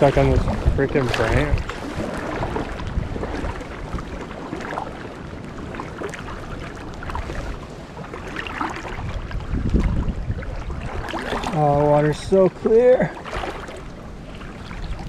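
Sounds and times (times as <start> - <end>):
rushing river water: 0.0 - 15.0
small splashes and knocks: 0.0 - 15.0
wind buffeting microphone: 0.0 - 15.0.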